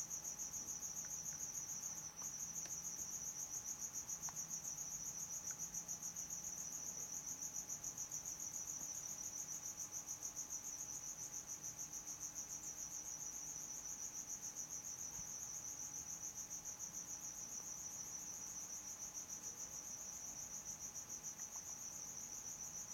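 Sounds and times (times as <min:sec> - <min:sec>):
cricket chirping trill: 0:00.0 - 0:22.9.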